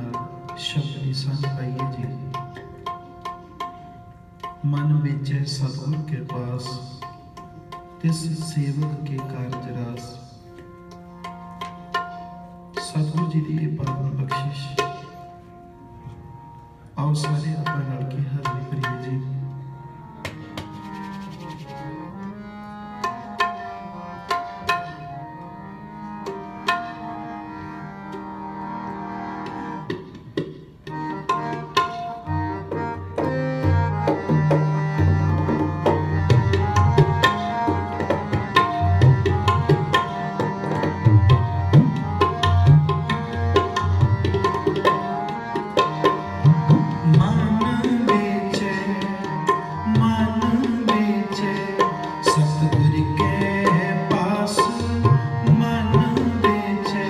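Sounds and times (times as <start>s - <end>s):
tabla drumming: 0.0s - 15.6s, 17.0s - 25.3s, 26.2s - 27.5s, 28.1s - 57.0s
harmonium melody: 0.0s - 57.0s.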